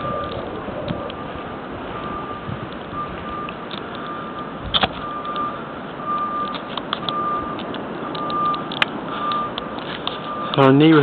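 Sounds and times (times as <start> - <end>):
reversing alarm beeping: 0.0 - 0.4, 1.9 - 11.0
engine noise: 0.0 - 11.0
wind: 0.0 - 11.0.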